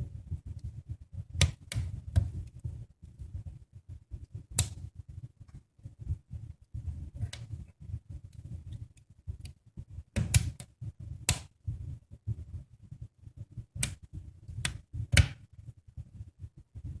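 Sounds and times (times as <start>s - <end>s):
fire crackling and popping: 0.2s - 12.4s, 13.3s - 15.7s.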